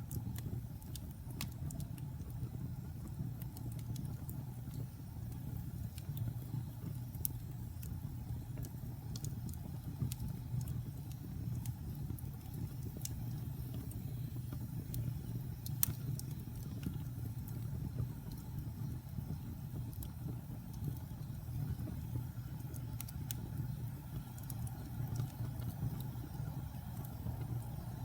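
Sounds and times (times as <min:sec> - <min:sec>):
fire flames rumbling: 0:00.0 - 0:28.0
wood crackling and popping: 0:00.0 - 0:28.0.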